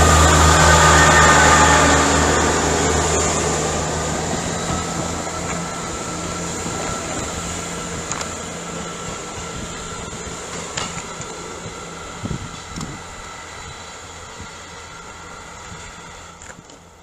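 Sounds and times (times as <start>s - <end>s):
diesel train engines running: 0.0s - 17.0s.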